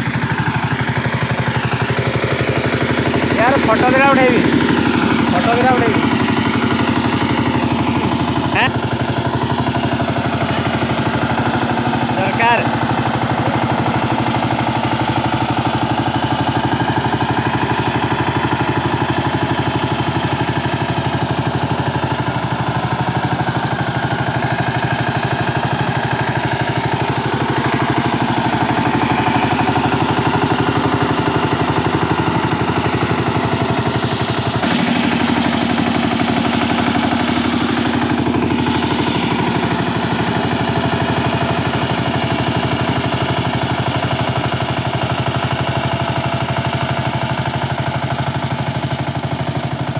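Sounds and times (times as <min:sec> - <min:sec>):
diesel tiller engine chugging: 0:00.0 - 0:49.9.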